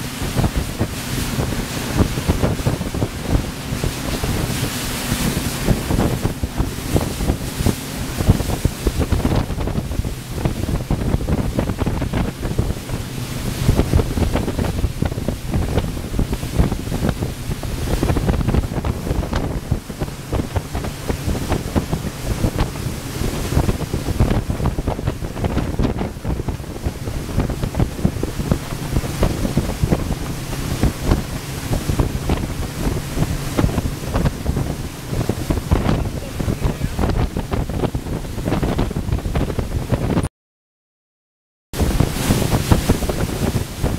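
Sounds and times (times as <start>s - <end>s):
boat engine drone: 0.0s - 40.2s
rushing water: 0.0s - 40.3s, 41.8s - 43.9s
wind buffeting microphone: 0.0s - 40.3s, 41.8s - 43.9s.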